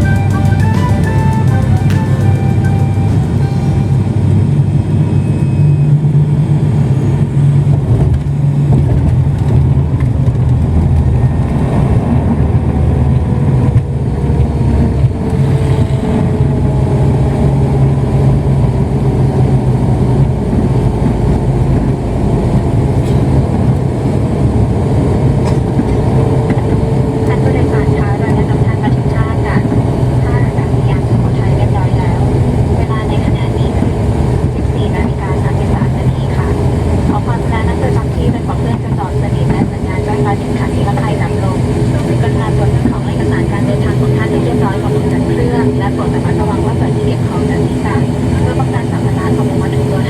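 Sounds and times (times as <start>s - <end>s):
airliner engine and propeller drone: 0.0s - 50.0s.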